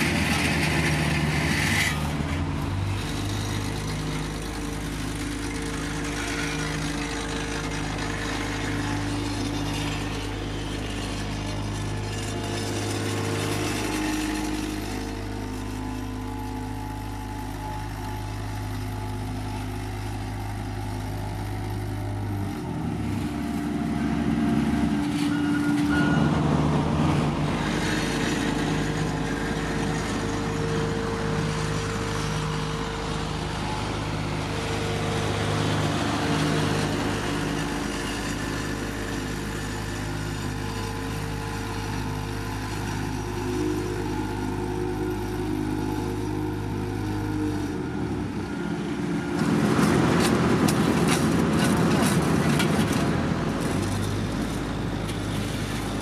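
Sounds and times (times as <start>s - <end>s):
paving machinery engines humming: 0.0s - 56.0s.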